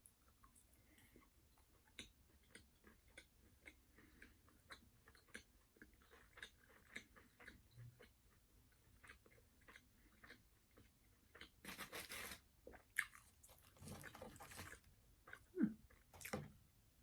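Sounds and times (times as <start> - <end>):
crunching and chewing: 0.2 - 16.6.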